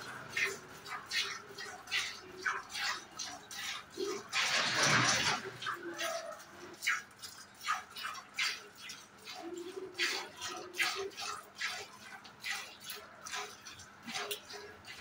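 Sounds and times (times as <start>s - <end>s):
milk squirting into a pail: 0.0s - 15.0s.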